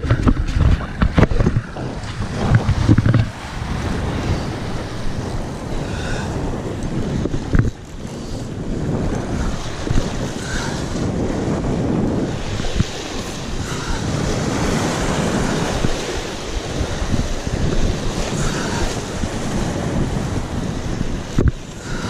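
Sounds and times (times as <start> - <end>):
surf breaking over rocks: 0.0 - 7.9, 8.8 - 22.0
wind buffeting microphone: 0.0 - 22.0.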